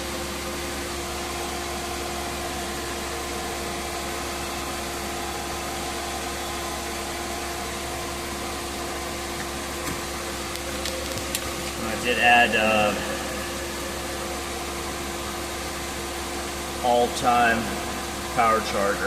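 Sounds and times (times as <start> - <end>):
car engine low drone: 0.0 - 19.0
constant hum tone: 0.0 - 19.0
heater blower fan: 0.0 - 19.0.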